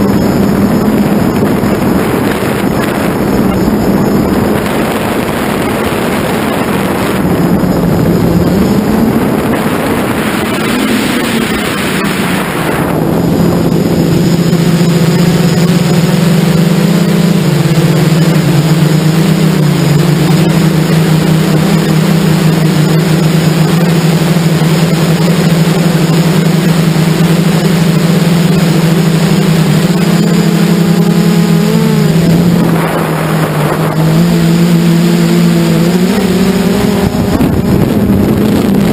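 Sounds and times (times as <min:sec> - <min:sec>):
drone motors humming: 0:00.0 - 0:38.9
wind rushing over microphone: 0:00.0 - 0:38.9.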